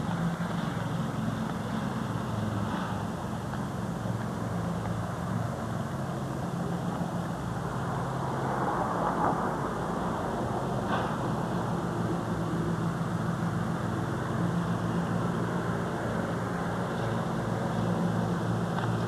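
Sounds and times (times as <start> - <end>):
low motor hum with hiss: 0.0 - 19.0.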